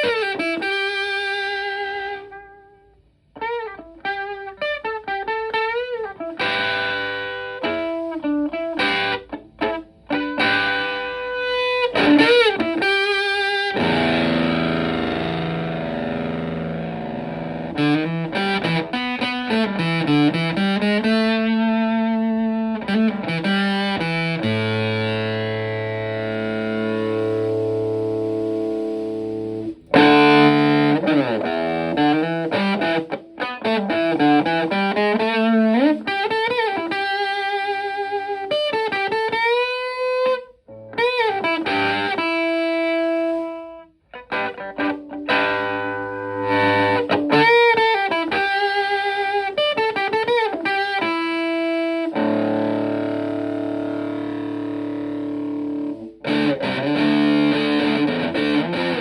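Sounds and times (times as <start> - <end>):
fuzz electric guitar: 0.0 - 59.0.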